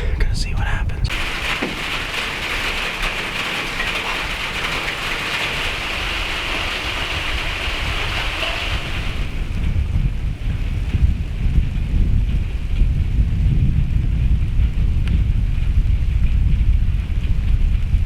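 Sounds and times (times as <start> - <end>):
rain falling: 0.0 - 18.0
wind rumbling on microphone: 0.0 - 18.0.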